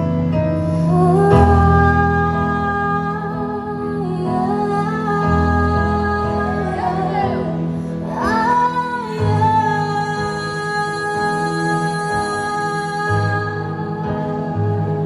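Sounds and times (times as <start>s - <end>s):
woman singing: 0.8s - 15.0s.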